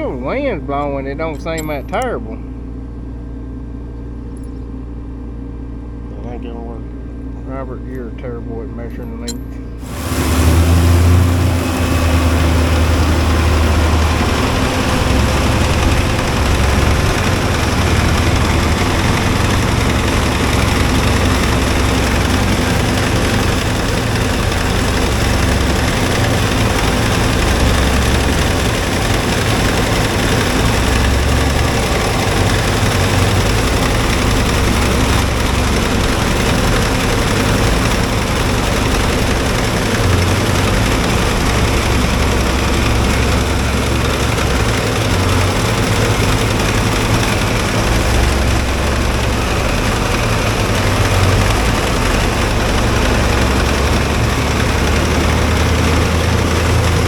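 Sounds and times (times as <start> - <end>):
heavy farm machinery running: 0.0 - 2.9, 5.5 - 57.0.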